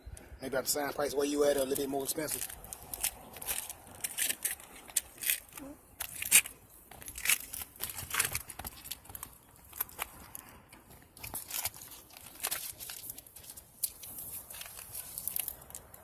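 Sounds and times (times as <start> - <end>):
crinkling rustling handling: 1.3 - 16.0.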